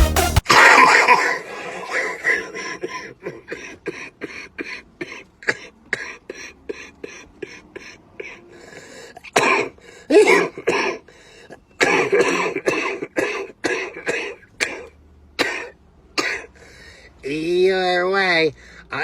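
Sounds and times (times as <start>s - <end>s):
man coughing: 0.5s - 8.6s, 9.2s - 16.5s.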